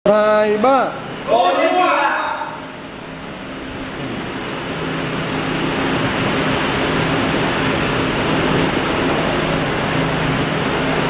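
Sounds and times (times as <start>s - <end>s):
welding machines humming: 0.4s - 11.0s.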